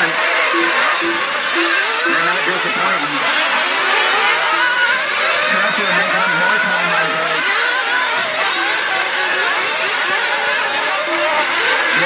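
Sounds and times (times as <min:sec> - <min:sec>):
rc car engines buzzing: 0:00.0 - 0:12.0.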